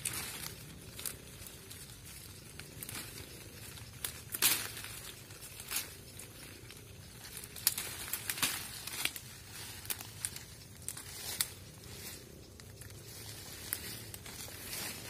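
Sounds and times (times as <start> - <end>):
branches rustling and crackling: 0.0 - 15.0
twigs snapping: 0.0 - 15.0.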